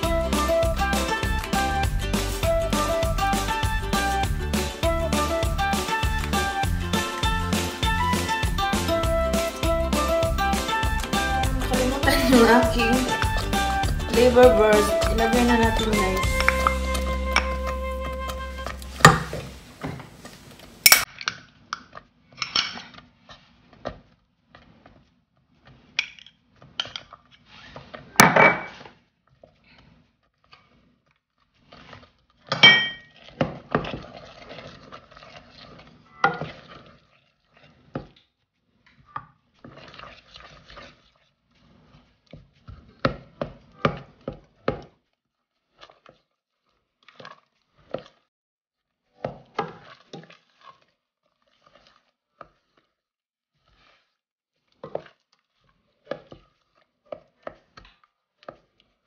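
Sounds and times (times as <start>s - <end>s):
wooden spoon stirring thick sauce: 0.0s - 20.7s, 22.9s - 28.1s, 28.8s - 32.5s, 33.1s - 59.0s.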